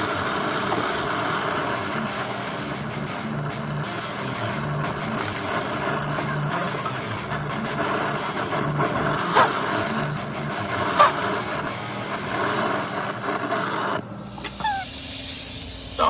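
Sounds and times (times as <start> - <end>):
torch flame rushing: 0.0 - 16.0.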